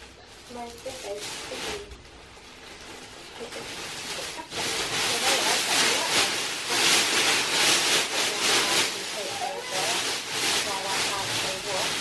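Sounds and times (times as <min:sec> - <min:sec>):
rustling rubbing noise: 0:00.0 - 0:12.0.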